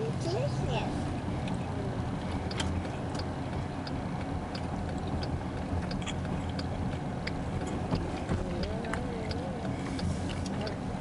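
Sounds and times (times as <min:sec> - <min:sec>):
low rumble inside car: 0:00.0 - 0:11.0
light ticking: 0:01.3 - 0:10.9.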